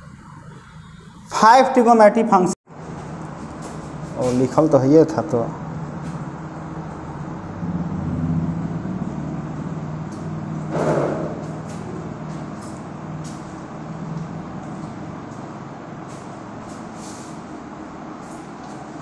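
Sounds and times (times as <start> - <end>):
low engine-like hum: 2.7 - 19.0.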